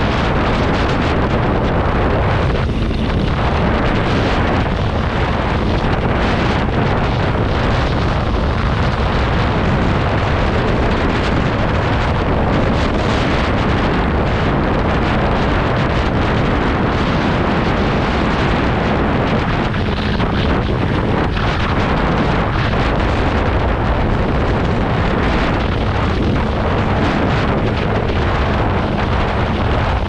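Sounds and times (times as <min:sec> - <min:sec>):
motorcycle engine running: 0:00.0 - 0:30.0
wind rush on microphone: 0:00.0 - 0:30.0.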